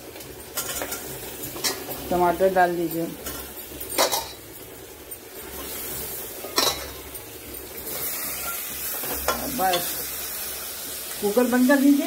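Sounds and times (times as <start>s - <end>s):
faint sizzle of vegetables cooking: 0.0s - 12.0s
steel cookware clinking: 0.1s - 10.4s.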